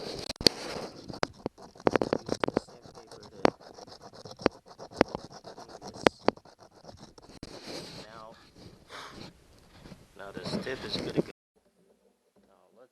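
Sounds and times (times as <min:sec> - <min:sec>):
scratching: 0:00.0 - 0:12.9.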